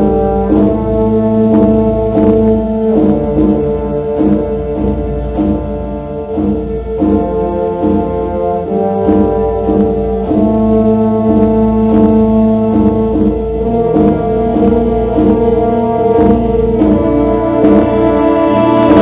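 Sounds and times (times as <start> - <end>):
wind band playing sustained chords: 0.0 - 19.0.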